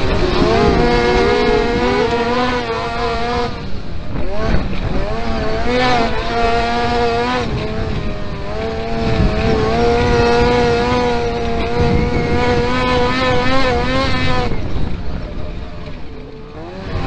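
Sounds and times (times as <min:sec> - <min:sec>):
racing kart engine revving: 0:00.0 - 0:17.0.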